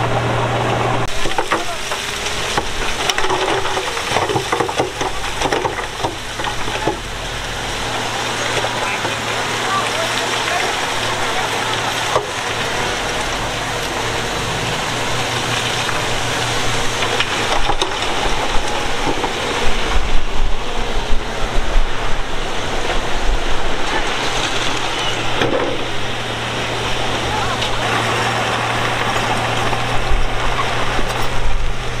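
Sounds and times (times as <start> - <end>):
diesel earthmoving machinery engine: 0.0 - 32.0.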